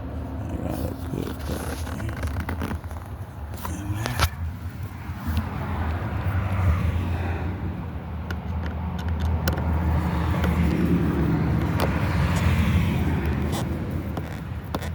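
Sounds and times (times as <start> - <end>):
vehicle engine humming: 0.0 - 14.9.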